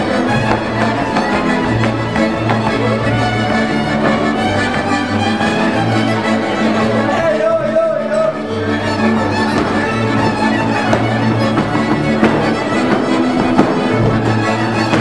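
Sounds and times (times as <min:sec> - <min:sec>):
double bass: 0:00.0 - 0:15.0
fiddles playing folk dance music: 0:00.0 - 0:15.0.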